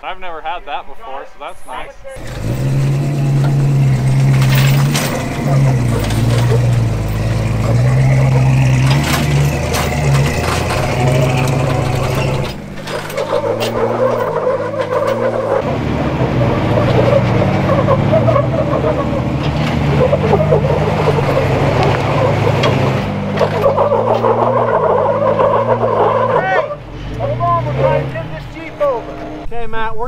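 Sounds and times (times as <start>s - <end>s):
truck engine labouring: 2.1s - 29.6s
lower engine sound: 2.2s - 29.6s.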